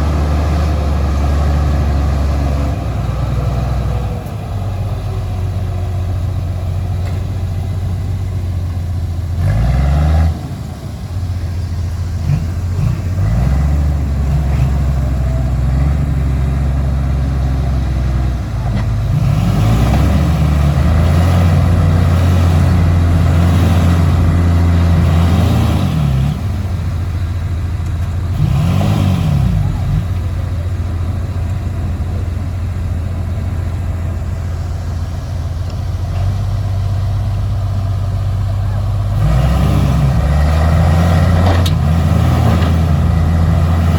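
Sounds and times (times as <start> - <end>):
heavy diesel engine revving: 0.0 - 43.9.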